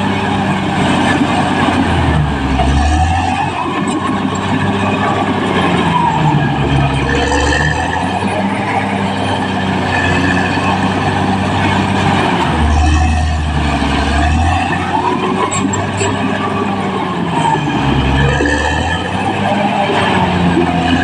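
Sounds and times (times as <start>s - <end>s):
bulldozer diesel engine under load: 0.0s - 21.0s.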